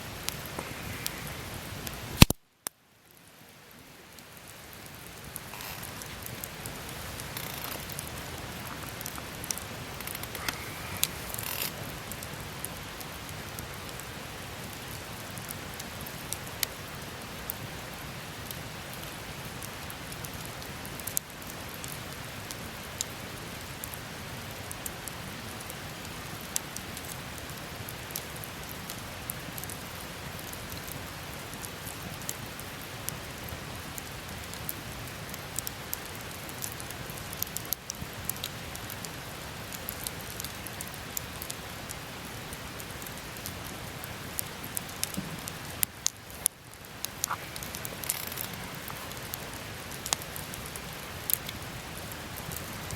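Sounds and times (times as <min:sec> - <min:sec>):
campfire hissing: 0:00.0 - 0:52.9
fire crackles and pops: 0:00.0 - 0:52.9.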